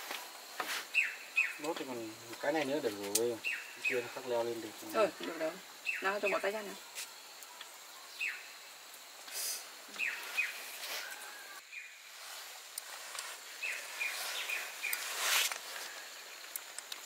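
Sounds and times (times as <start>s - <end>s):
outdoor background noise: 0.0s - 17.0s
small bird chirping: 0.7s - 8.9s, 9.9s - 16.7s.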